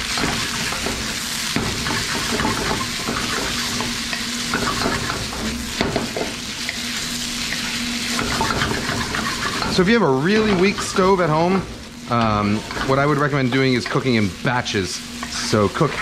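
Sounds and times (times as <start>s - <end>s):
chicken sizzling in a wok: 0.0s - 16.0s
spatula scraping wok: 0.0s - 16.0s.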